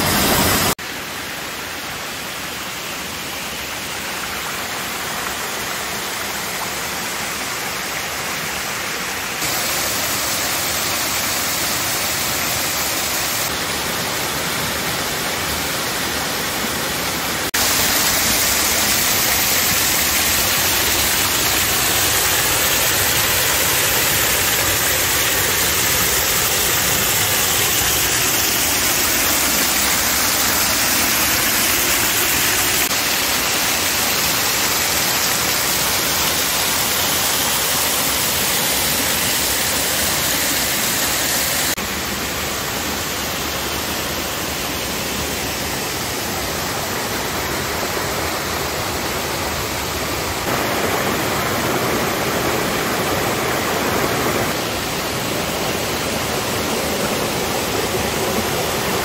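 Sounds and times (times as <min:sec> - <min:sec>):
waterfall and stream rushing: 0:00.0 - 0:59.0.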